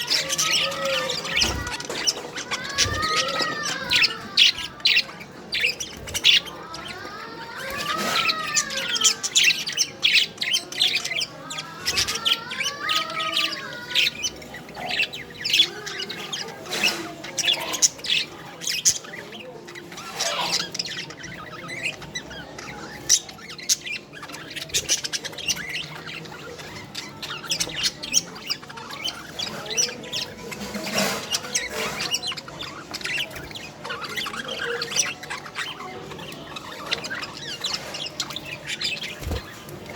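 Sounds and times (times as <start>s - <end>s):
budgerigars chattering: 0.0s - 39.9s
warbling bird calls: 0.0s - 39.9s.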